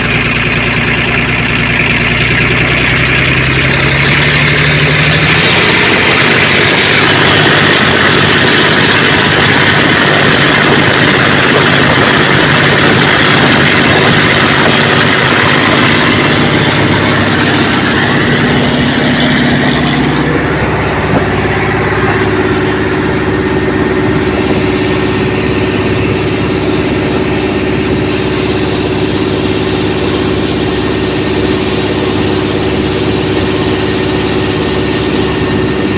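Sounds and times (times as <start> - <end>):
boat diesel engine running hard: 0.0 - 35.9.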